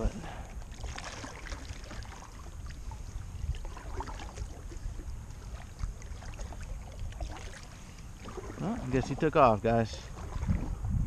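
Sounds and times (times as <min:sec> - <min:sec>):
paddle splashes and drips: 0:00.2 - 0:11.0.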